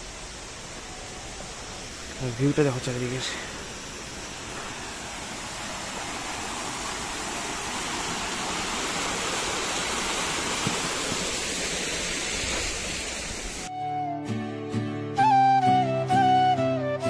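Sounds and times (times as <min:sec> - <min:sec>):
water rushing from small waterfall: 0:00.0 - 0:13.7.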